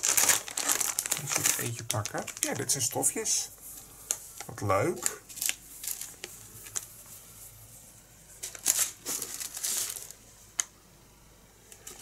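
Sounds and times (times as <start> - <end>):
fabric and plastic wrapping rustling: 0.0 - 10.3.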